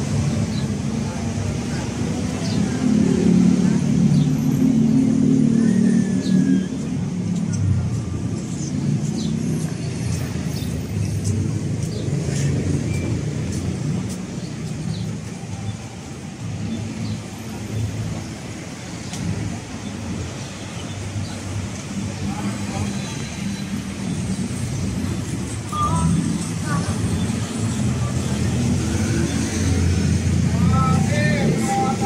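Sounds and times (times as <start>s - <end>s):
steady traffic rumble: 0.0s - 32.0s.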